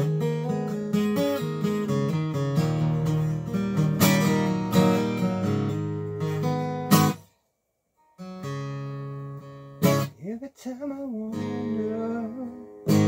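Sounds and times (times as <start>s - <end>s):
acoustic guitar picked and strummed: 0.0s - 13.0s.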